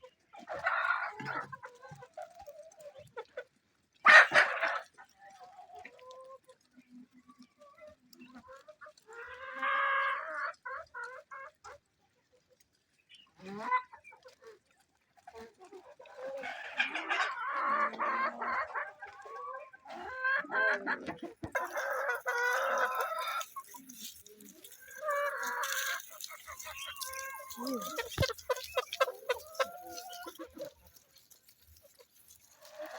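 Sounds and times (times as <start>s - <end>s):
hens clucking and calling: 0.0s - 12.4s, 13.2s - 32.9s.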